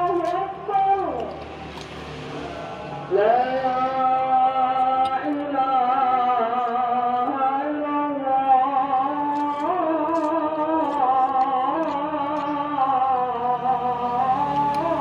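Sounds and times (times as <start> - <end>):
slow vocal melody: 2.3 - 15.0.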